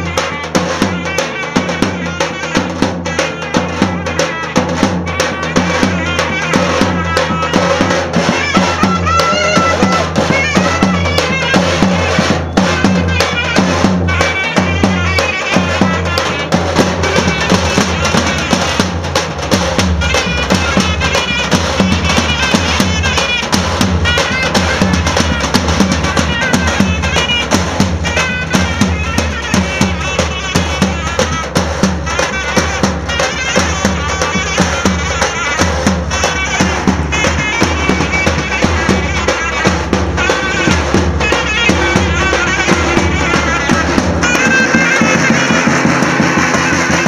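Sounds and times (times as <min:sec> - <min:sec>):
bass drums beating: 0:00.0 - 0:47.0
reed pipe melody: 0:00.0 - 0:47.0.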